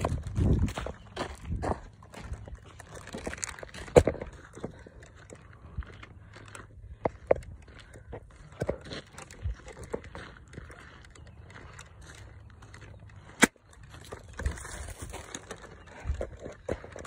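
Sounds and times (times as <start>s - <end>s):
footsteps crunching on pine needles: 0.0s - 7.2s, 7.8s - 16.9s.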